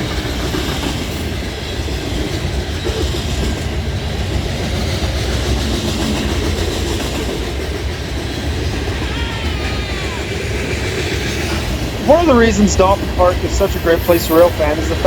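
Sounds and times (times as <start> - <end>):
freight cars rumbling and clattering: 0.0 - 15.0.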